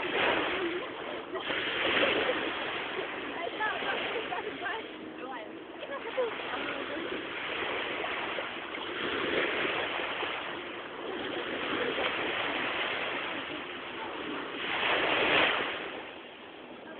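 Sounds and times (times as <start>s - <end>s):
surf washing onto beach: 0.0s - 16.9s.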